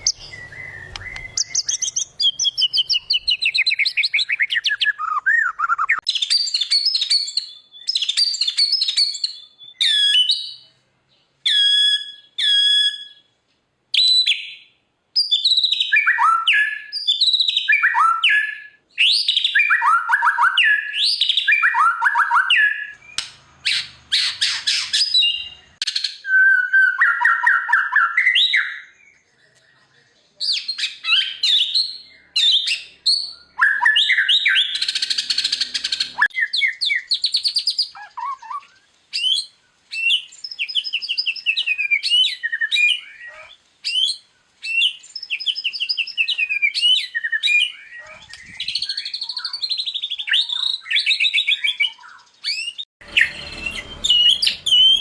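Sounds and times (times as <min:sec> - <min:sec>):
bird singing whistled phrases: 0:00.0 - 0:10.6, 0:11.4 - 0:13.3, 0:14.0 - 0:29.4, 0:30.4 - 0:55.0.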